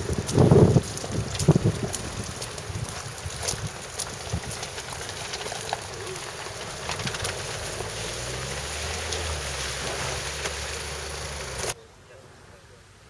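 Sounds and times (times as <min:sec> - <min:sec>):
wind buffeting microphone: 0:00.0 - 0:11.7
stones clicking under tyres: 0:00.0 - 0:11.8
low engine hum: 0:00.0 - 0:11.9.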